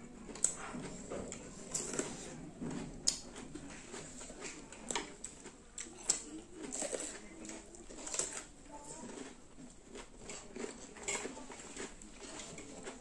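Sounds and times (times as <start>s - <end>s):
wet chewing: 0.0s - 13.0s
cucumber crunching: 0.1s - 13.0s.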